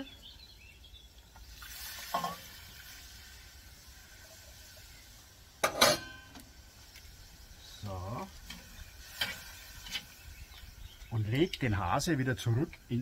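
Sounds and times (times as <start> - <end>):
broth sizzling in hot pan: 1.2 - 13.0.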